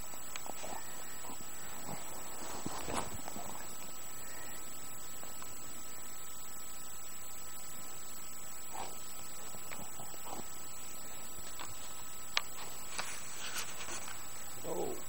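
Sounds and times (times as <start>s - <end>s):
recording hiss: 0.0s - 15.0s
thin electronic whine: 0.0s - 15.0s.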